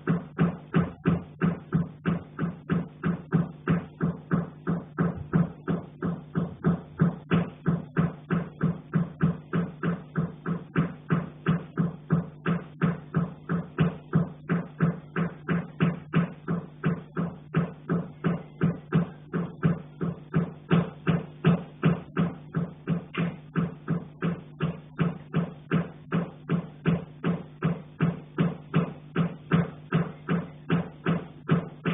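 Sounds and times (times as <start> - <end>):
knocking on metal pipe: 0.0 - 31.9.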